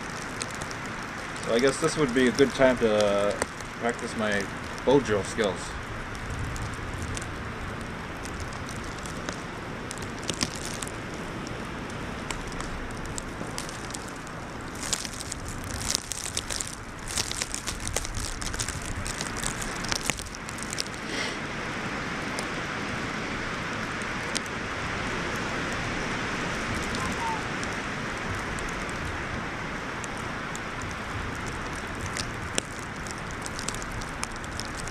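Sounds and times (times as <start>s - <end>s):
crackling and rustling: 0.0s - 21.4s, 23.6s - 34.9s
steady wind: 0.0s - 34.9s.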